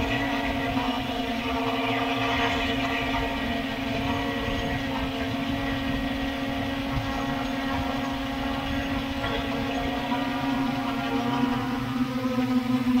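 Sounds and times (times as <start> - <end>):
drone propellers humming: 0.0 - 13.0
wind rumbling on microphone: 0.0 - 13.0.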